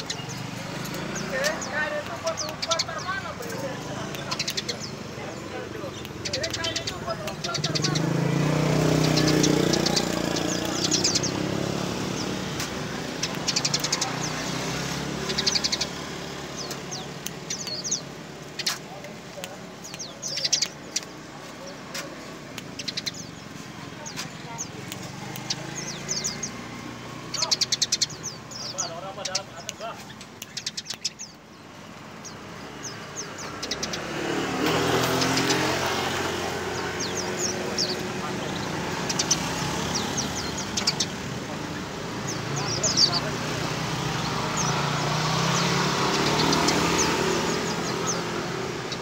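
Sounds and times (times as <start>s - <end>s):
vehicle engine passing: 0.0s - 30.0s, 32.3s - 49.0s
sparrow chirping: 0.0s - 49.0s.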